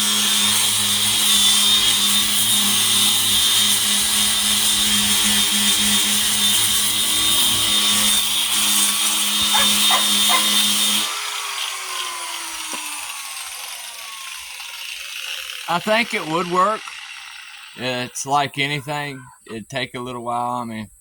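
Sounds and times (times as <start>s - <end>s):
electric grinder sanding hide: 0.0s - 18.1s.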